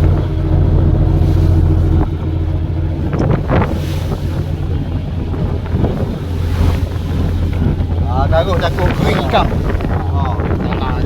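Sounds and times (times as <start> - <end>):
boat engine humming: 0.0 - 11.0
wind buffeting microphone: 0.0 - 11.0.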